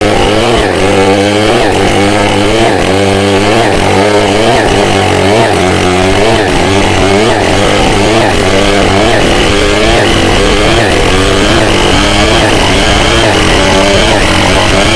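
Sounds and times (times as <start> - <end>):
chainsaw cutting log: 0.0 - 14.9.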